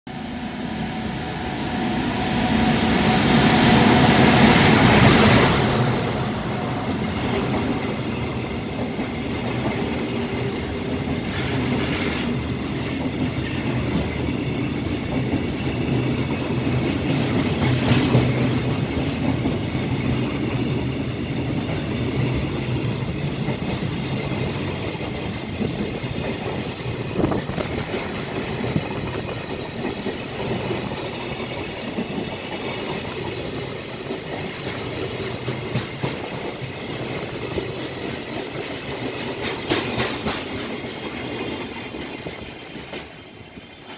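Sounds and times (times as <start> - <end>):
electric locomotive passing: 0.1 - 43.9
wagon wheels rumbling on rail: 1.2 - 43.9.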